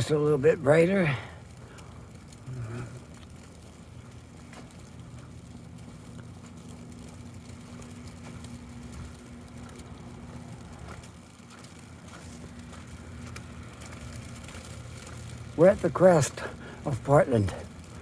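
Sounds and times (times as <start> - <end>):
faint ticks: 0.0 - 18.0
vehicle engine humming: 0.0 - 18.0.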